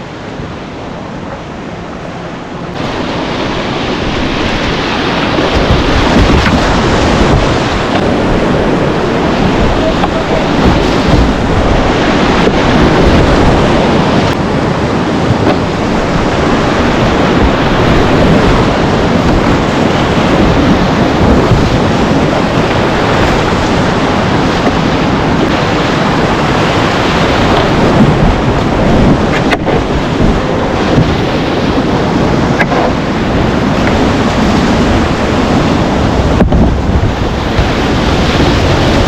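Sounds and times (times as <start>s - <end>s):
river rushing: 0.0s - 39.0s
wind buffeting microphone: 0.0s - 39.0s.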